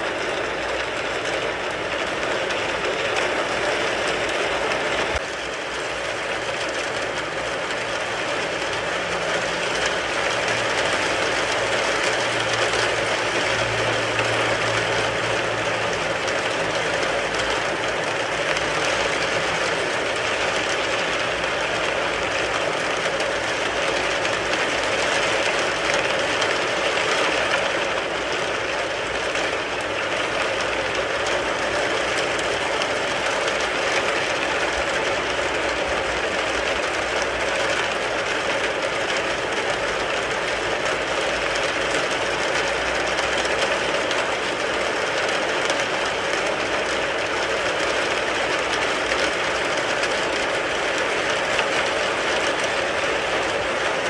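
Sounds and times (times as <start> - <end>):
rain on a car roof: 0.0 - 54.0.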